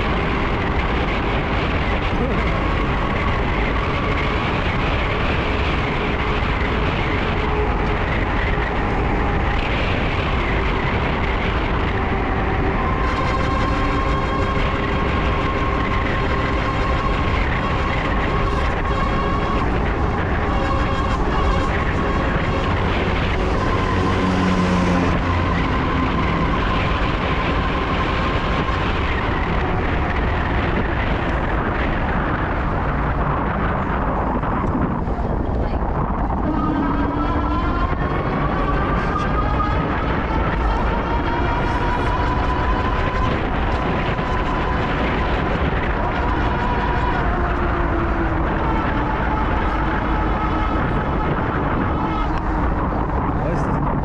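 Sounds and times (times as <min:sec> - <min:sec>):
traffic and road noise: 0:00.0 - 0:54.0
vehicle rumble with faint whine: 0:00.0 - 0:54.0.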